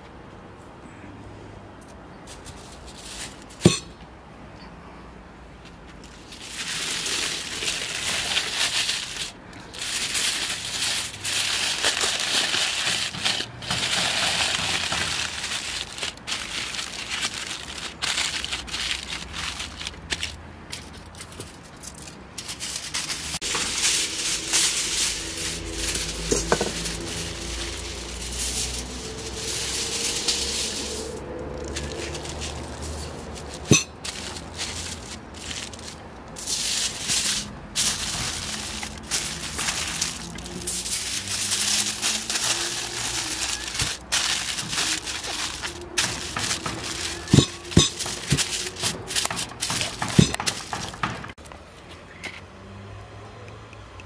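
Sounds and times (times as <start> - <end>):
aluminium foil crinkling: 2.3 - 3.7, 6.0 - 51.4.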